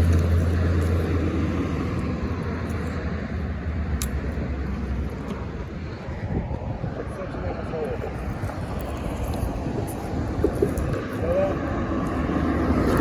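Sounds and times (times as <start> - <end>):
passing vehicle engine hum: 0.0 - 13.0
road noise: 0.0 - 13.0.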